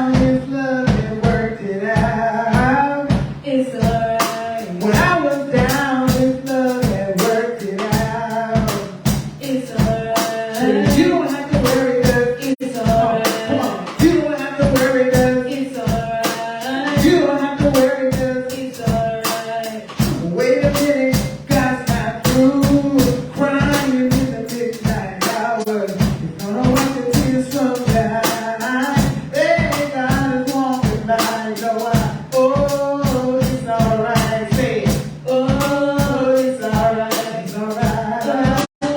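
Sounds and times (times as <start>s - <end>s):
band playing: 0.0s - 38.9s
steady drum beat: 0.0s - 38.9s
voices singing: 0.0s - 38.9s.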